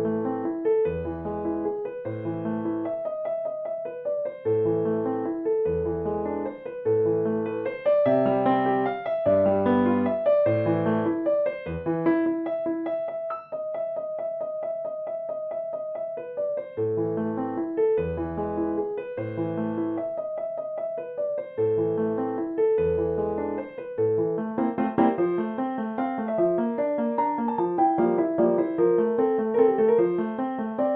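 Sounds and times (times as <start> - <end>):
piano music: 0.0 - 30.9.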